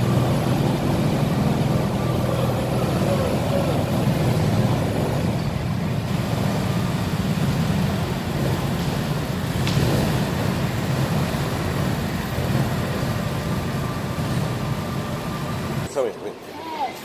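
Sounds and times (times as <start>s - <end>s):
go-kart engines idling: 0.0s - 17.0s.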